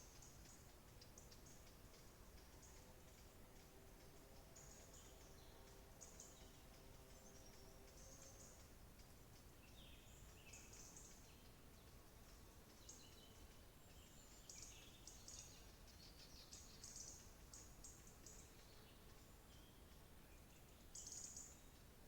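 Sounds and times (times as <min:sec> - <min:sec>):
low background hiss: 0:00.0 - 0:22.0
songbirds chirping and trilling: 0:00.0 - 0:22.0.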